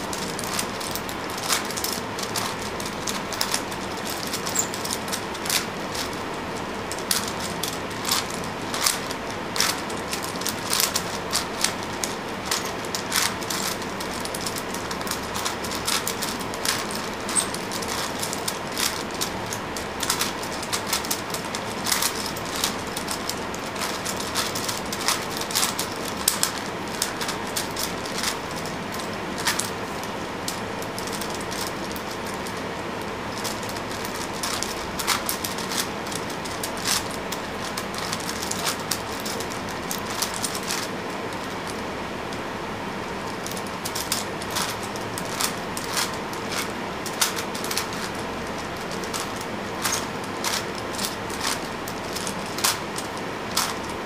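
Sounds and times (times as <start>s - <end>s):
puzzle cube plastic clicks: 0.0s - 32.6s, 33.3s - 41.8s, 43.3s - 54.0s.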